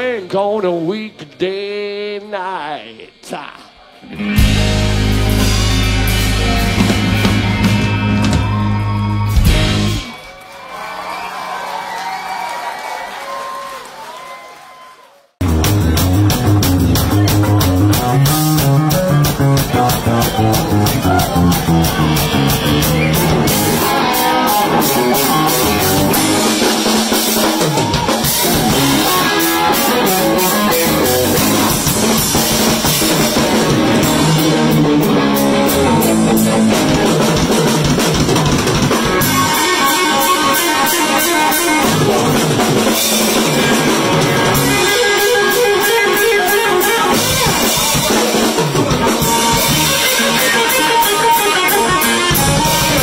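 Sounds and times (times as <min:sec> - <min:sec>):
electric guitar: 0:04.0 - 0:10.4, 0:15.4 - 0:53.0
drum kit beat: 0:04.1 - 0:10.2, 0:15.4 - 0:53.0.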